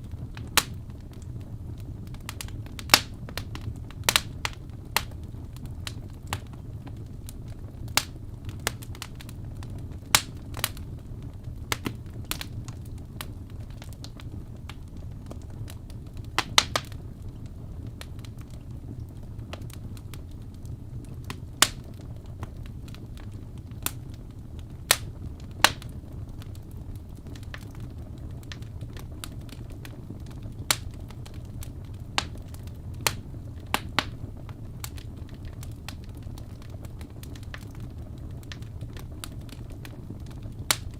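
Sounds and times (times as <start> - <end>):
fire crackling and popping: 0.0 - 40.9
fire rumbling: 0.0 - 40.9.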